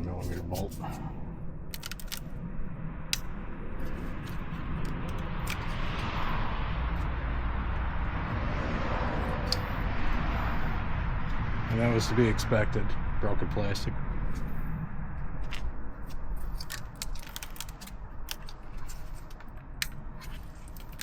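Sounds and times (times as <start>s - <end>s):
low rumble: 0.0s - 21.0s
steady rushing noise: 0.0s - 21.0s.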